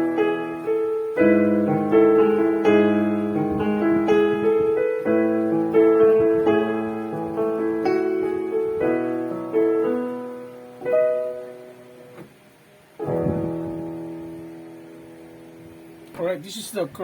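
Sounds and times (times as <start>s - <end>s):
slow piano piece: 0.0s - 16.4s.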